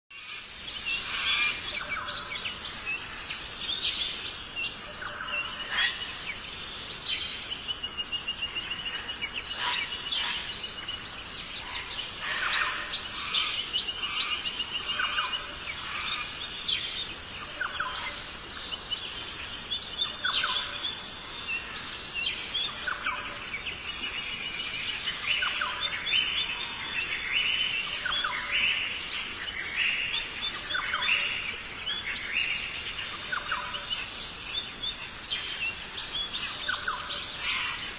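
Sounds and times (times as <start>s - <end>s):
birds singing and chirping: 0.1s - 37.9s
steady high hiss: 0.2s - 37.9s.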